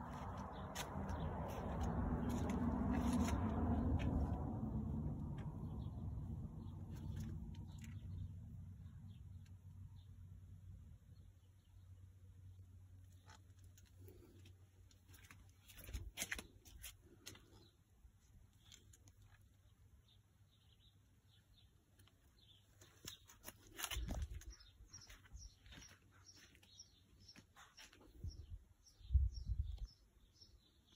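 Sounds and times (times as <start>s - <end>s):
small birds chirping: 0.0s - 4.3s, 5.4s - 10.3s, 11.0s - 30.9s.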